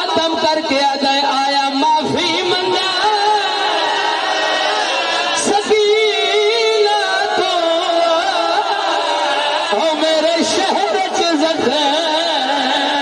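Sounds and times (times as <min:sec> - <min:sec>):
man chanting: 0:00.0 - 0:03.7, 0:05.4 - 0:08.9, 0:09.7 - 0:13.0.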